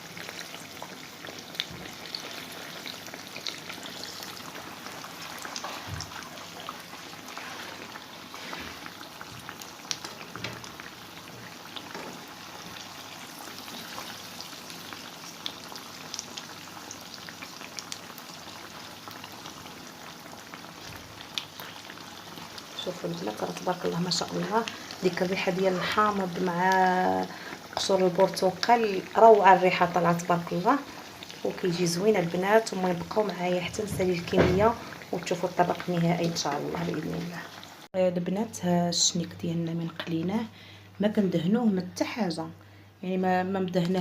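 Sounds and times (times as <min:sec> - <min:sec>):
dough deep-frying in hot oil: 0:00.0 - 0:38.0
small crackles of frying: 0:00.0 - 0:44.0.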